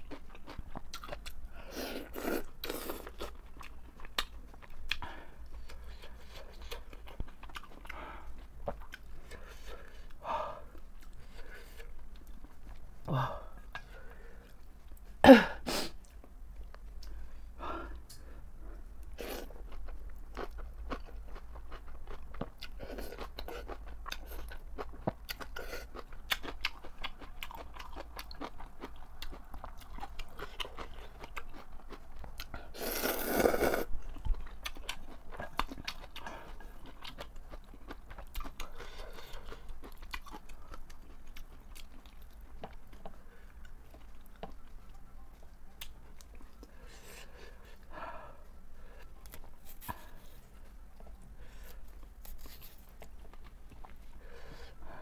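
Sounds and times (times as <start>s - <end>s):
chewing and crunching food: 0.0s - 15.2s, 17.9s - 55.0s.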